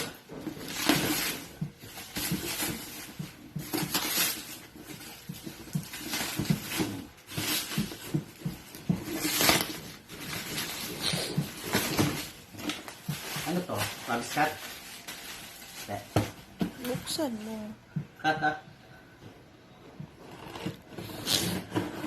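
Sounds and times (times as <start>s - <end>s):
package rustling and scraping: 0.0s - 17.5s, 20.1s - 22.0s.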